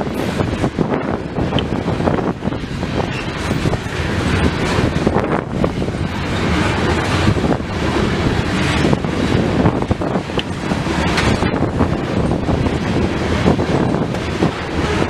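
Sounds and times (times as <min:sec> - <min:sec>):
train cars clanking: 0:00.0 - 0:15.0
train wheels rumbling on rails: 0:00.0 - 0:15.0
wind buffeting microphone: 0:00.0 - 0:15.0.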